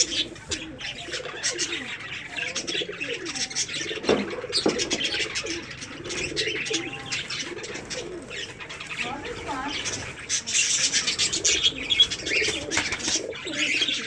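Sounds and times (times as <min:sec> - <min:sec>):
birds chirping: 0:00.0 - 0:14.0
birds cooing: 0:00.0 - 0:14.0.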